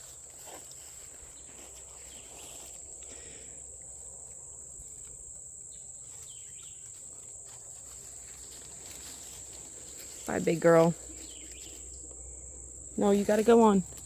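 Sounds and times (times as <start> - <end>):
faint rustles: 0.0 - 14.0
insects droning: 0.0 - 14.0.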